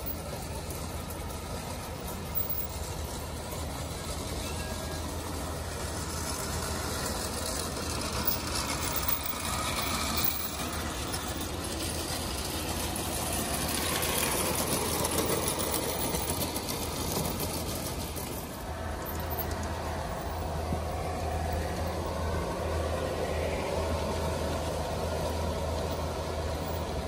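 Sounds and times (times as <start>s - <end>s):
model train motor whirring: 0.0s - 27.0s
wheels rattling over track: 0.0s - 27.0s.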